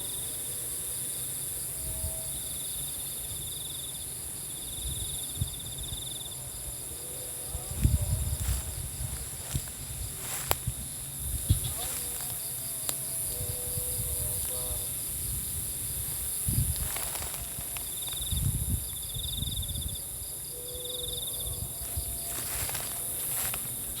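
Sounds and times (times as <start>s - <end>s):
crickets pulsing chirp: 0.0s - 24.0s
insect trills: 0.0s - 24.0s
insects buzzing: 0.0s - 24.0s.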